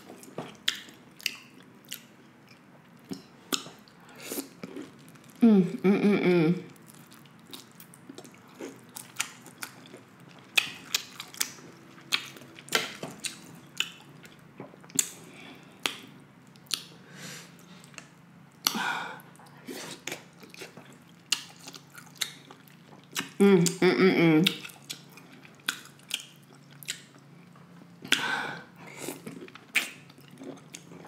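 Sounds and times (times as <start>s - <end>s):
close chewing with wet mouth sounds: 0.0s - 5.4s, 6.7s - 16.9s, 17.6s - 23.8s, 24.4s - 31.0s.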